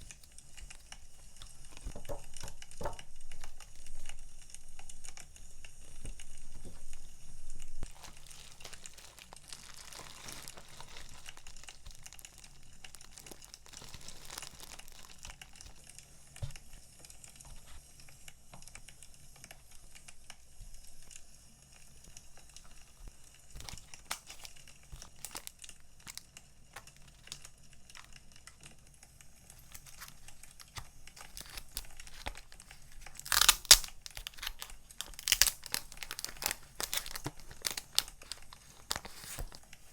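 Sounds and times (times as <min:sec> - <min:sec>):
packaging crinkling and rustling: 0:00.0 - 0:39.9.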